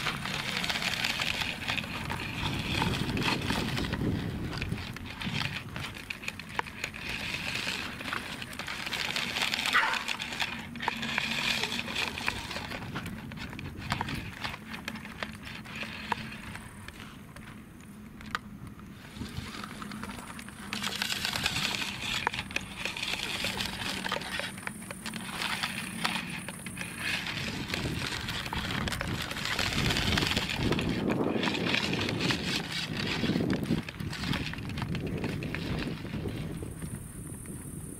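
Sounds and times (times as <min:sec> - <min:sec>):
running footsteps on gravel: 0:00.0 - 0:17.6, 0:19.0 - 0:37.8.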